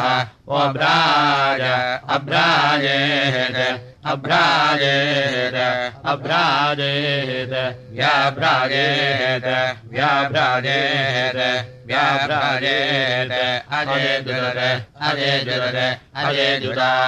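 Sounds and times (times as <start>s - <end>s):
person chanting: 0.0s - 17.0s.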